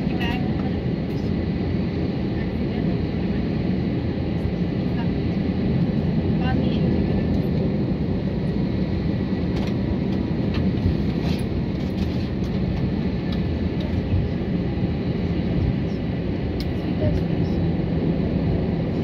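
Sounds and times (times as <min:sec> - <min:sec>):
faint high engine whine: 0:00.0 - 0:19.0
jet airliner cabin rumble: 0:00.0 - 0:19.0.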